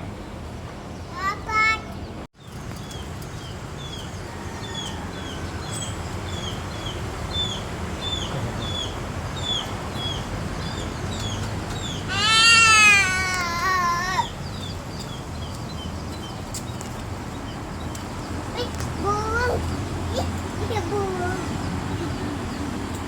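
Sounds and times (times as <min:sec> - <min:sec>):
small birds chirping: 0:00.1 - 0:23.0.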